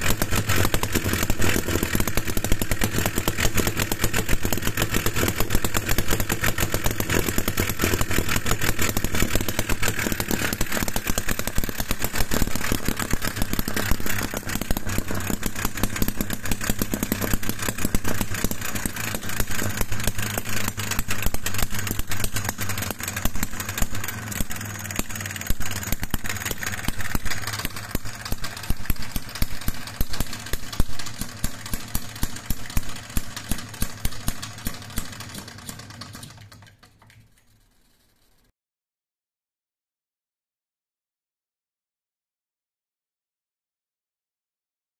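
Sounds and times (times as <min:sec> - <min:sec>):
model engine running: 0:00.0 - 0:38.5.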